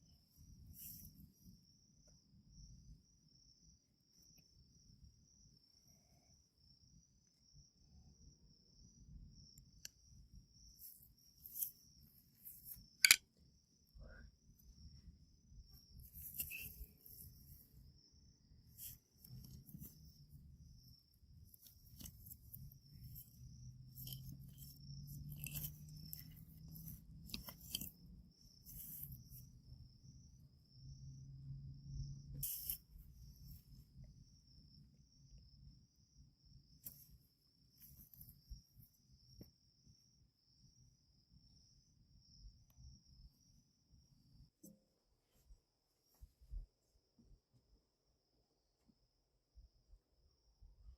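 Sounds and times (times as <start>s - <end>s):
crickets chirring: 0.0s - 44.6s.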